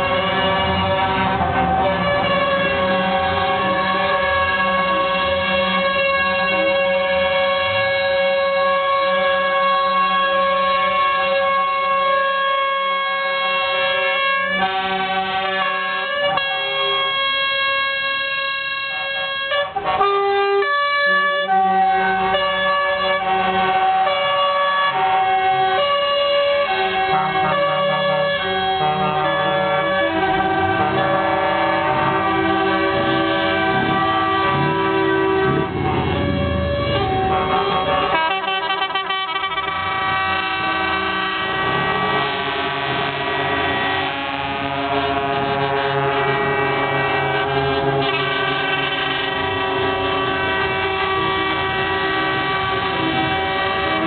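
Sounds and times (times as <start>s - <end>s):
diesel truck engine rumbling: 0.0s - 54.0s
lorry air horns blasting: 0.0s - 54.0s.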